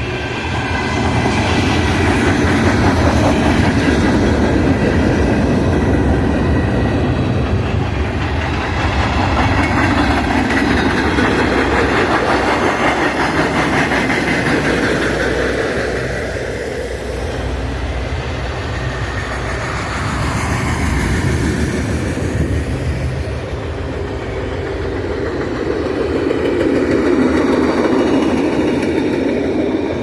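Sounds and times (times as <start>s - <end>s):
freight train cars rumbling: 0.0s - 30.0s
wheels clacking over rail joints: 0.5s - 30.0s.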